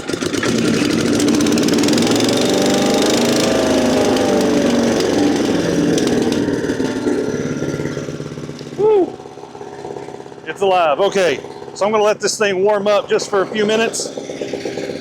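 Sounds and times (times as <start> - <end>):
petrol engine running: 0.0 - 15.0.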